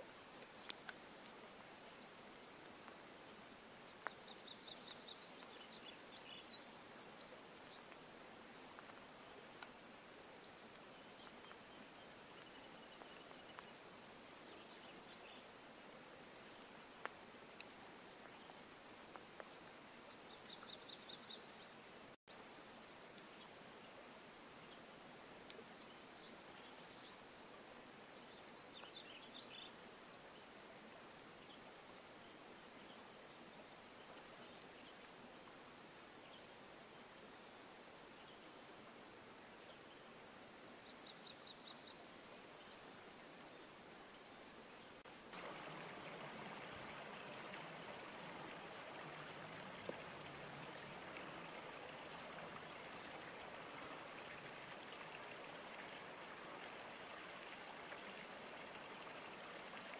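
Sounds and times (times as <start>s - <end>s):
small birds singing: 0.0s - 56.5s
light rain on pond water: 0.0s - 59.9s.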